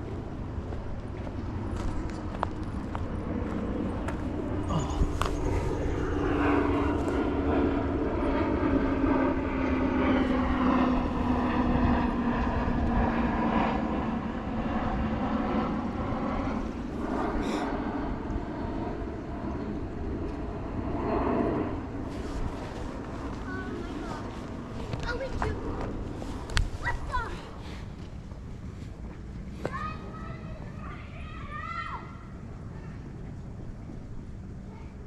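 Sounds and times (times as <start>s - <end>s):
passing engine drone: 0.0s - 28.9s.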